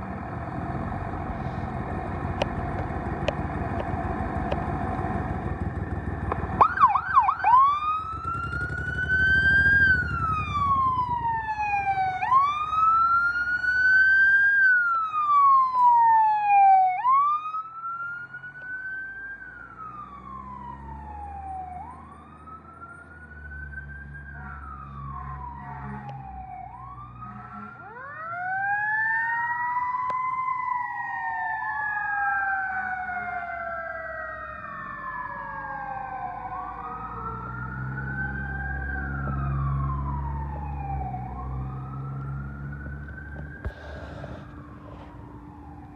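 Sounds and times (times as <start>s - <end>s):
truck engine rumble: 0.0s - 16.2s, 17.8s - 45.9s
electronic siren wailing: 5.6s - 45.9s
siren yelp sweeps: 5.6s - 45.9s.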